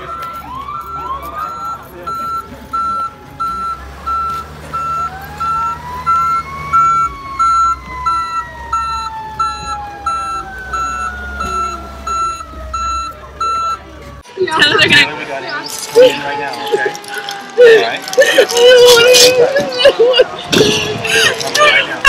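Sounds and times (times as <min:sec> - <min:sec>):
reversing alarm beeping: 0:00.0 - 0:18.5.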